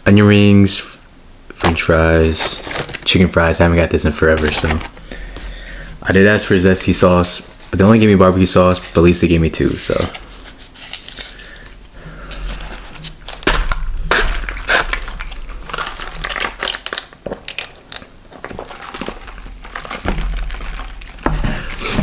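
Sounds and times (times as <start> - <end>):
food packaging crinkling: 1.6 - 22.0.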